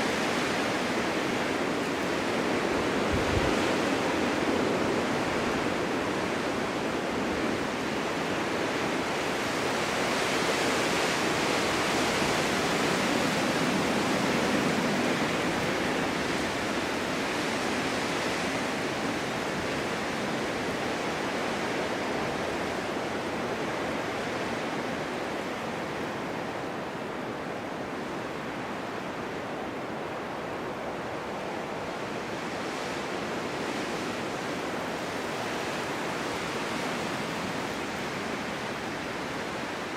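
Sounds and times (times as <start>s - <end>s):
snowstorm wind blowing: 0.0s - 39.9s.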